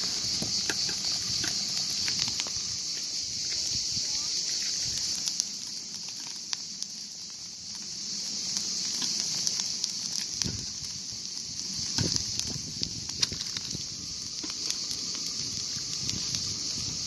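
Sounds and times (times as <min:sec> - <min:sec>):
fish grilling crackles and pops: 0:00.0 - 0:17.0
steady high-pitched hiss: 0:00.0 - 0:17.0.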